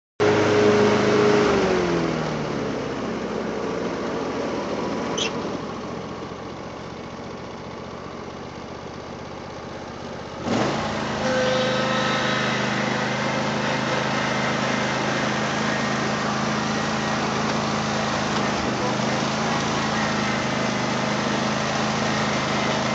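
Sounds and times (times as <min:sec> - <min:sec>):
riding lawn mower engine: 0:00.2 - 0:22.9.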